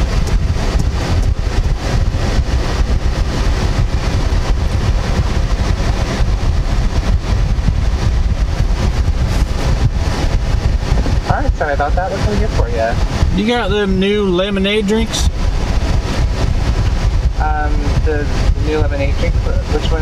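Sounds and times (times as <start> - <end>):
car engine idling: 0.0 - 20.0
wind buffeting microphone: 0.0 - 20.0.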